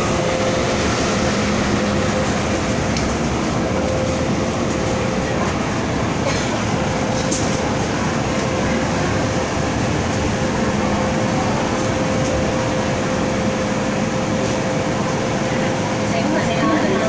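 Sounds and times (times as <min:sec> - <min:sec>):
air conditioning rush: 0:00.0 - 0:17.0
high whine: 0:00.0 - 0:17.0.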